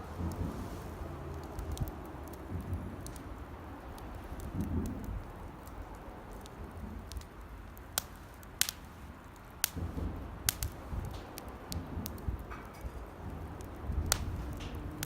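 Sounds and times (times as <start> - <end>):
campfire crackling: 0.0 - 15.0
sharp pops of burning wood: 0.0 - 15.0.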